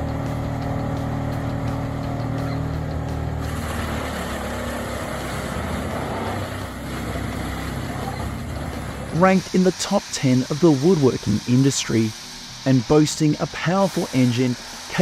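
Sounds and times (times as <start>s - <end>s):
heavy diesel engine running: 0.0s - 15.0s
rushing noise: 1.0s - 15.0s.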